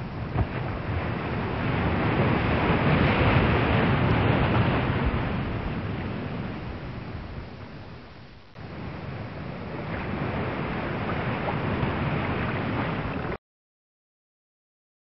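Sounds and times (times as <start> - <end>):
water noise: 0.0 - 13.4
wind rushing over microphone: 0.0 - 13.4.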